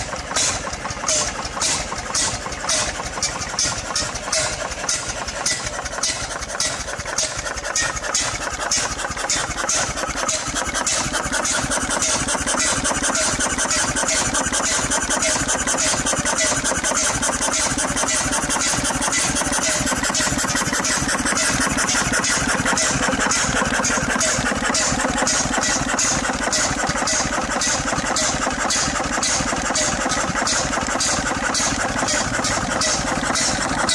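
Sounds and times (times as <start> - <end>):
stationary engine running: 0.0 - 33.9.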